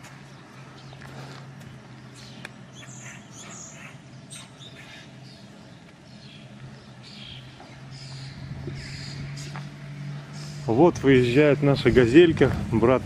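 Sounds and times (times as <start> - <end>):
small birds chirping: 0.0 - 11.6
steady low hum: 0.0 - 13.0.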